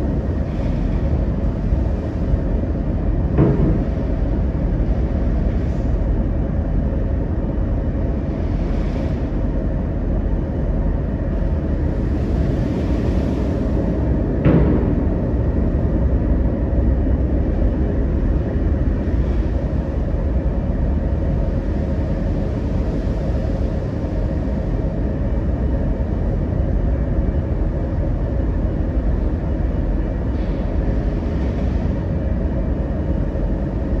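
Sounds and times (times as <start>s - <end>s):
ferry engine low rumble: 0.0s - 34.0s
rushing wind: 0.0s - 34.0s.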